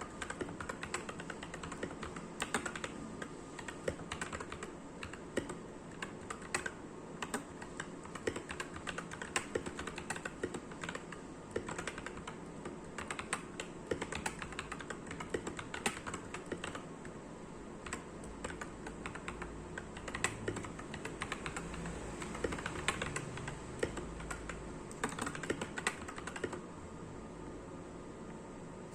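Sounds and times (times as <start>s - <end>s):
mechanical keyboard typing: 0.0s - 16.9s, 17.8s - 26.6s.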